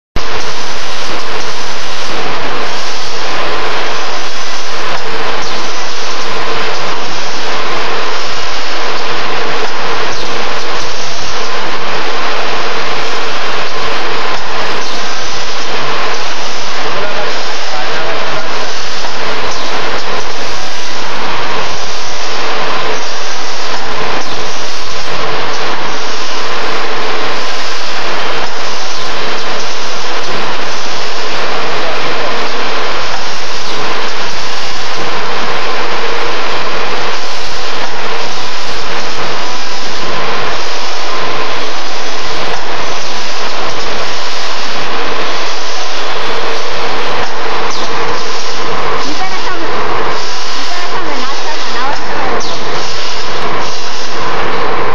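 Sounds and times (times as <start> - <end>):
machine running: 0.2 - 54.9.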